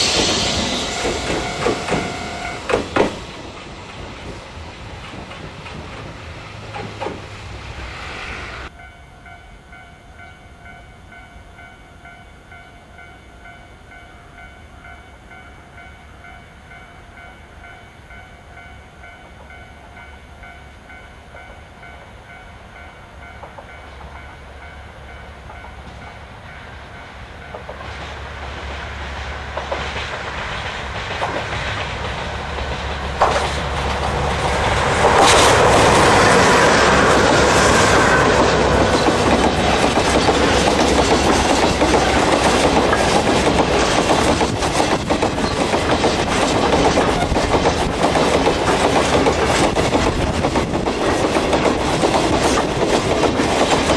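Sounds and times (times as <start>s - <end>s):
diesel train approaching: 0.0s - 53.9s.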